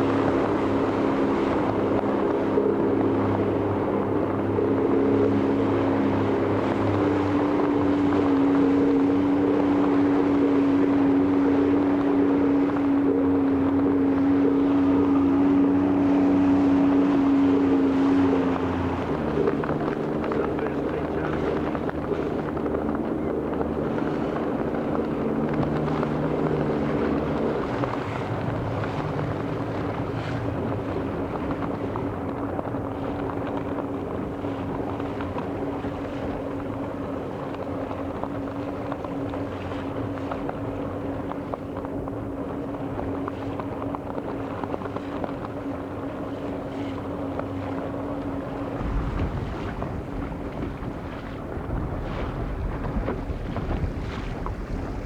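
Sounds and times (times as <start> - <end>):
motorboat engine running: 0.0 - 55.0
wind buffeting microphone: 0.0 - 55.0.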